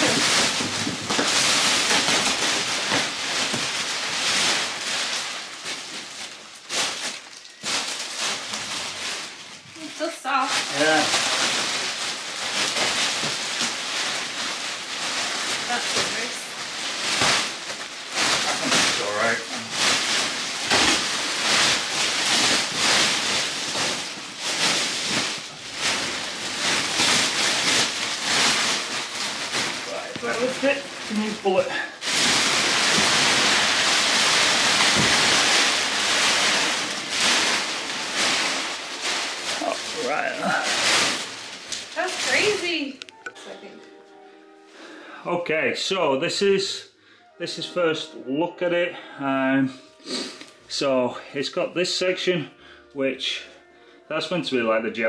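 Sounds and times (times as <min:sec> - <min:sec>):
plastic sheeting crinkling: 0:00.0 - 0:55.0.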